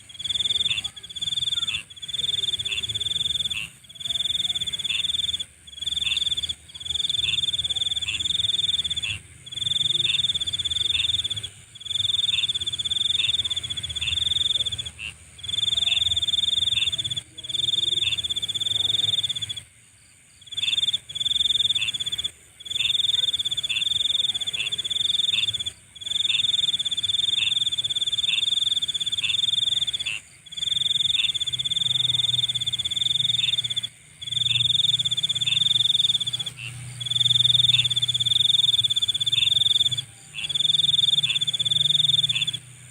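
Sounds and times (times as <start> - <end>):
crickets trilling: 0.0 - 42.9
high-pitched insect hum: 0.0 - 42.9.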